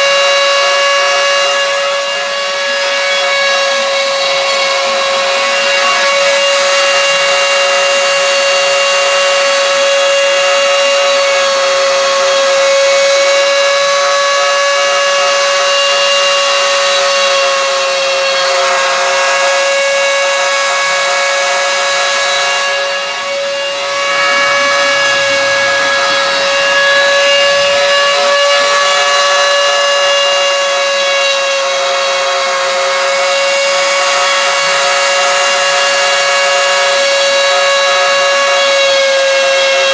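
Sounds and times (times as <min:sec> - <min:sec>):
cnc machine whine: 0:00.0 - 0:39.9
machine cutting noise: 0:00.0 - 0:39.9.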